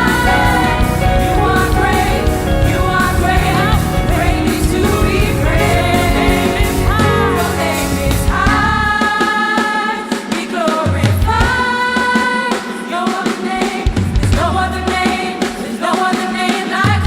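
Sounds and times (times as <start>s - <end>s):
band with drums and bass: 0.0s - 17.0s
gospel singers: 0.0s - 17.0s.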